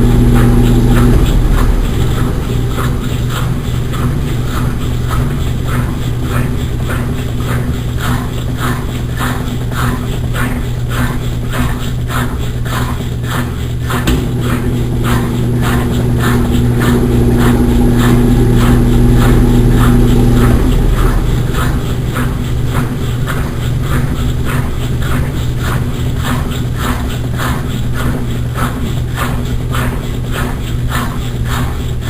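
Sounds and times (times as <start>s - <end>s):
washing machine running: 0.0s - 32.0s.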